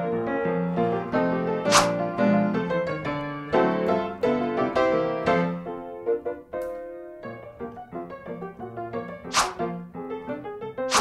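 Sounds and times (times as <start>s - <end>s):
light piano tune: 0.0s - 10.9s.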